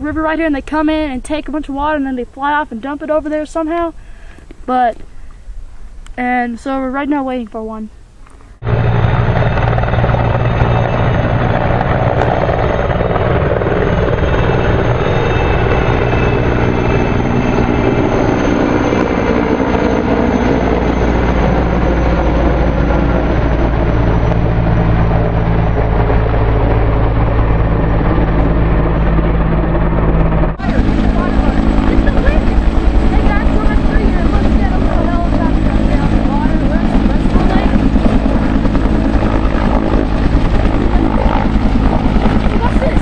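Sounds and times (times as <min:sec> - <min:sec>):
helicopter rotor beating: 0:00.0 - 0:05.0, 0:06.2 - 0:43.0.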